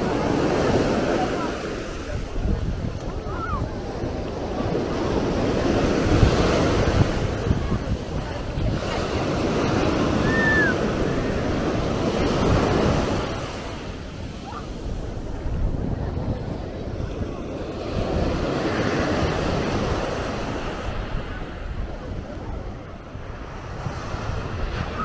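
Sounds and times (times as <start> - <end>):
sea waves breaking: 0.0 - 25.0
wind rumbling on microphone: 0.0 - 25.0.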